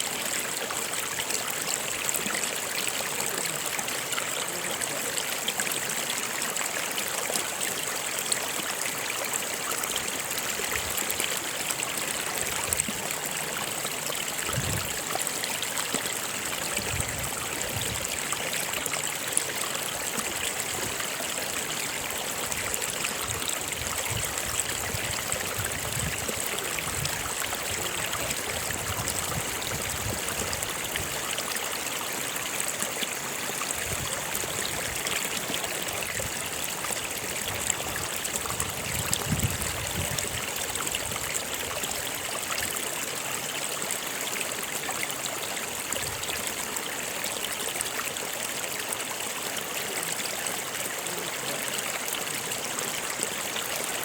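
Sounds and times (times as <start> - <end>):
low water gurgles: 0.0 - 49.0
stream water rushing: 0.0 - 54.0.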